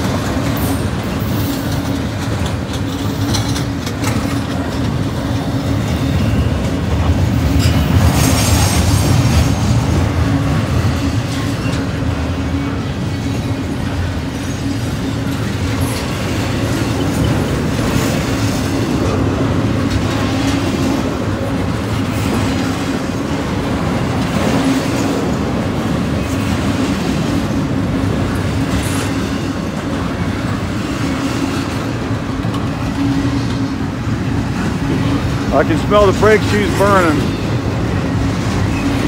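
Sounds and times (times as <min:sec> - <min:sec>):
wheels rushing on rail: 0:00.0 - 0:39.0.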